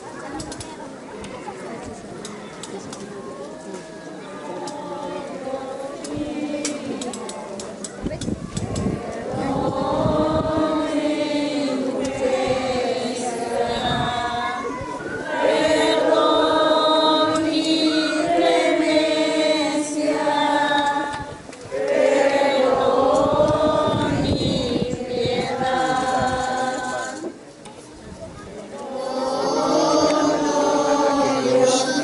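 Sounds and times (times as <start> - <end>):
group singing a hymn: 4.3 - 7.9, 8.6 - 27.5, 28.6 - 32.0.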